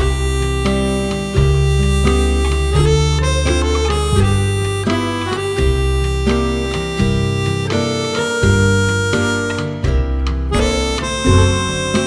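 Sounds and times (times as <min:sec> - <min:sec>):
background music with bass line: 0:00.0 - 0:12.0.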